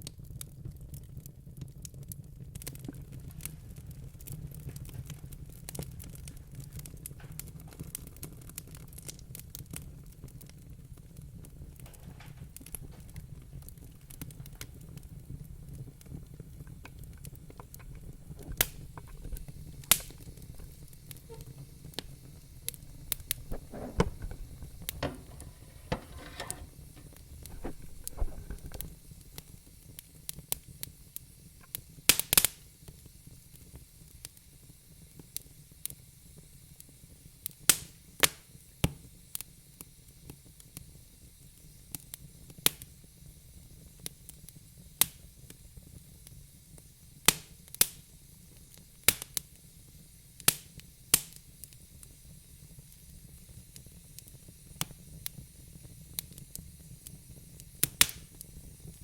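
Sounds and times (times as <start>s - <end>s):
fire crackling and popping: 0.0s - 36.0s, 37.4s - 43.0s, 46.8s - 59.0s
fire hissing and sizzling: 0.0s - 59.0s.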